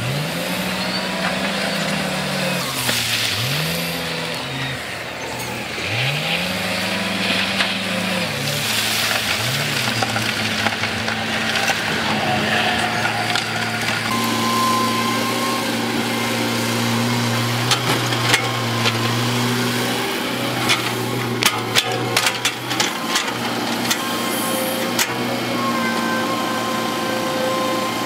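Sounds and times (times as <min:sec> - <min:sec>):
heavy machinery droning: 0:00.0 - 0:28.0.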